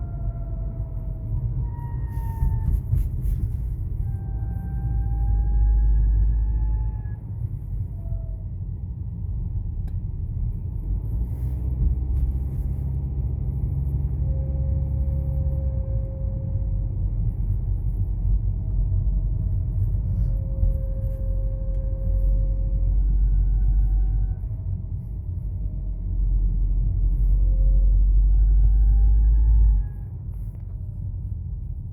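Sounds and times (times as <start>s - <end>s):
car engine low rumble: 0.0s - 31.9s
faint gliding whining tones: 0.0s - 31.9s.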